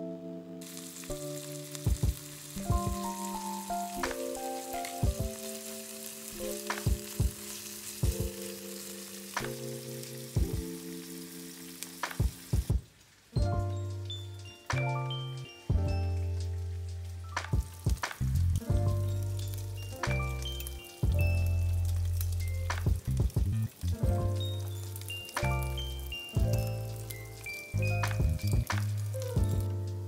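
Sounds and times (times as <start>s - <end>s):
meat and pepper sizzling in oil: 0.6s - 30.0s.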